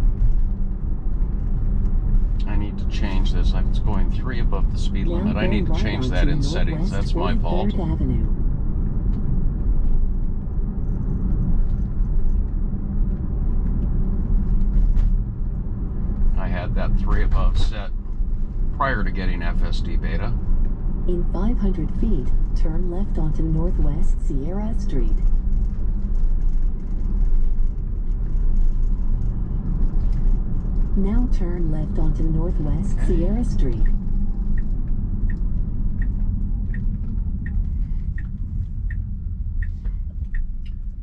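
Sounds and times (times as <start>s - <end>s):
tyre and road noise in car cabin: 0.0s - 41.0s.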